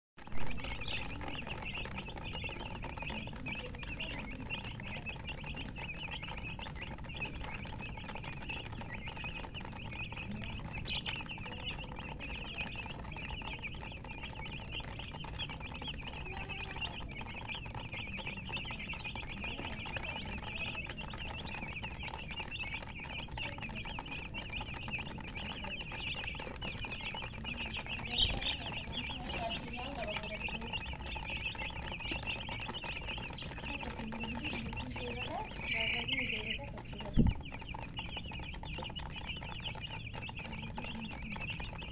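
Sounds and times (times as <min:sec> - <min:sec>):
chicks peeping: 0:00.2 - 0:41.9
low background rumble: 0:00.2 - 0:41.9.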